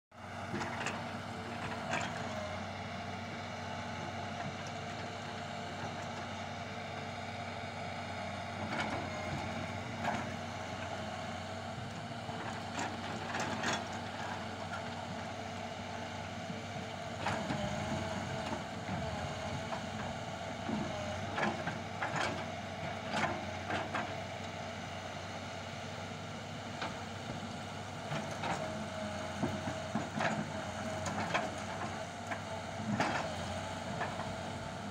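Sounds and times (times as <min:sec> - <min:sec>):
heavy diesel engines running: 0:00.2 - 0:34.9.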